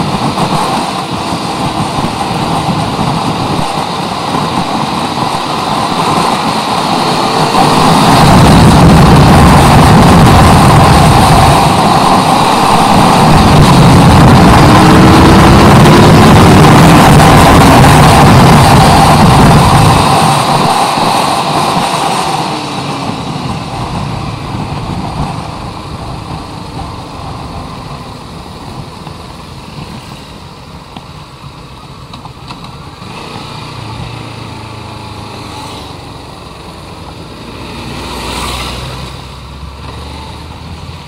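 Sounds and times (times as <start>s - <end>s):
motorcycle engine: 0.0s - 41.0s
rush of riding: 0.0s - 41.0s.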